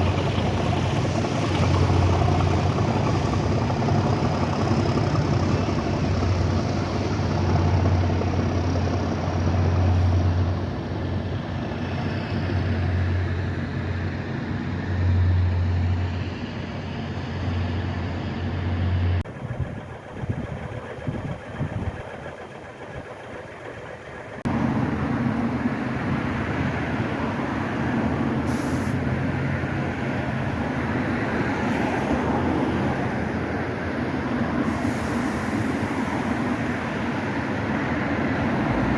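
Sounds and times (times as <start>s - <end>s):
diesel locomotive engine humming: 0.0s - 38.9s.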